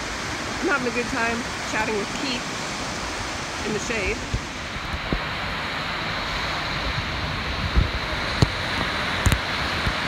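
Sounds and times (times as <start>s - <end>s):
ocean surf on sandy beach: 0.0s - 10.0s
wind thumps on microphone: 0.0s - 10.0s.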